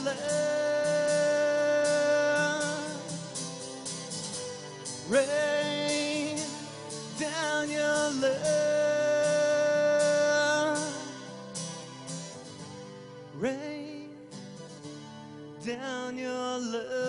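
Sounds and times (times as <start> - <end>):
acoustic guitar strumming: 0.0 - 17.0
person singing wordless melody: 0.0 - 17.0.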